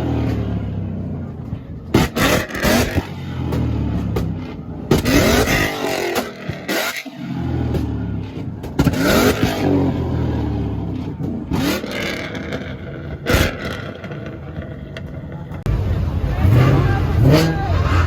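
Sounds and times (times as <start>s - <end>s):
car engine revving: 0.0s - 18.0s
exhaust pops: 1.4s - 17.6s.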